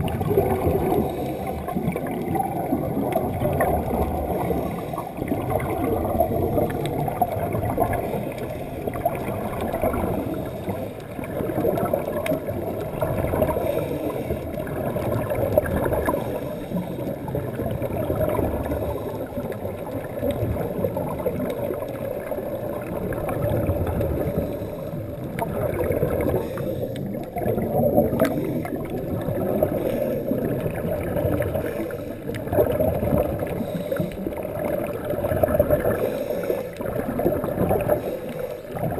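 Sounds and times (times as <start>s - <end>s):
diver exhaling bubbles: 0.0s - 38.9s
muffled underwater rushing: 0.0s - 38.9s.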